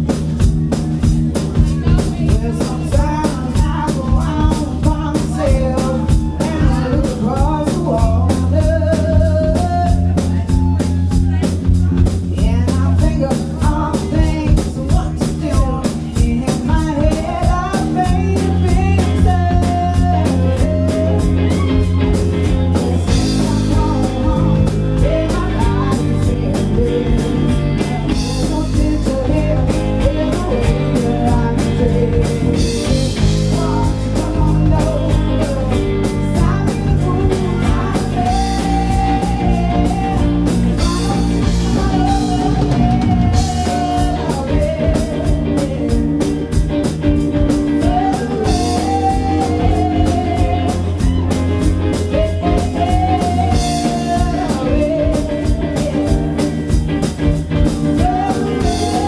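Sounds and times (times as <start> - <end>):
blues-rock band playing: 0.0 - 59.0
woman singing: 0.3 - 59.0.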